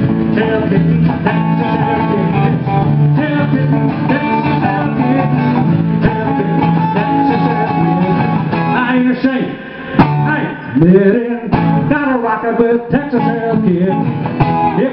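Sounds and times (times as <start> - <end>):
country band playing: 0.0 - 14.9
electric guitar lead: 0.0 - 14.9
strummed acoustic guitar: 0.0 - 14.9.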